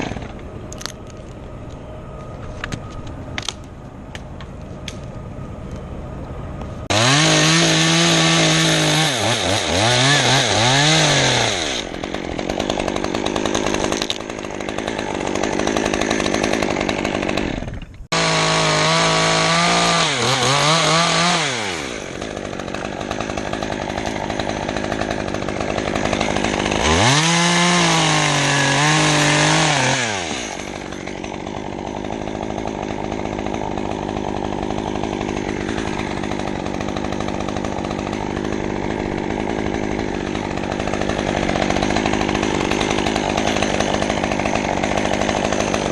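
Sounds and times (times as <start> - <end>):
chainsaw cutting wood: 0.0 - 1.4, 6.8 - 45.9.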